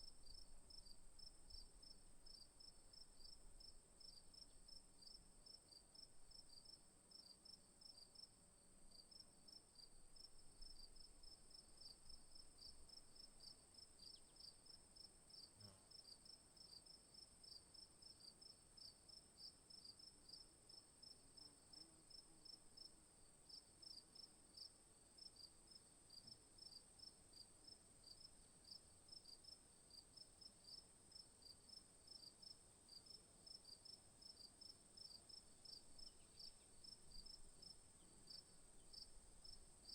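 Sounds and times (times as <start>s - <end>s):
crickets chirping: 0.0s - 8.3s, 8.9s - 39.9s.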